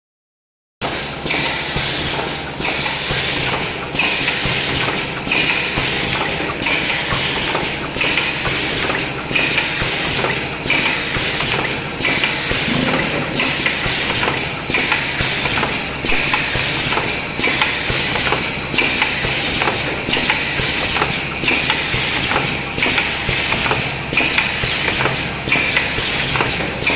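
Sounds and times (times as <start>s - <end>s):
machine cycling stroke: 0.8s - 26.9s
mechanical clatter: 0.8s - 26.9s.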